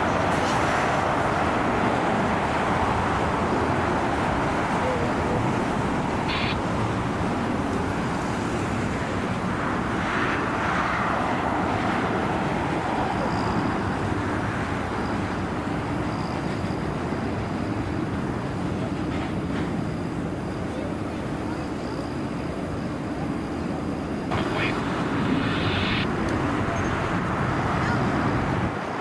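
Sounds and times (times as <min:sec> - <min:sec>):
jet engine noise: 0:00.0 - 0:29.0.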